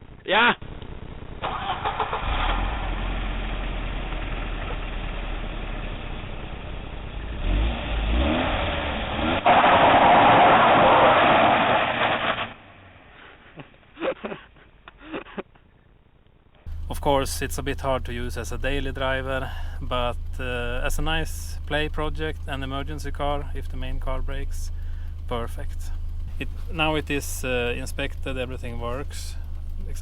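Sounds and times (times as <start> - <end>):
car engine revving: 0.6 - 13.9, 16.7 - 30.0.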